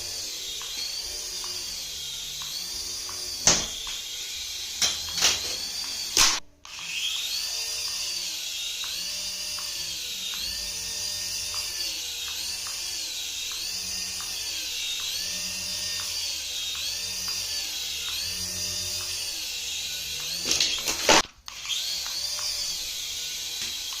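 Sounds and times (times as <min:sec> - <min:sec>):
toy motor whir: 0:00.0 - 0:24.0.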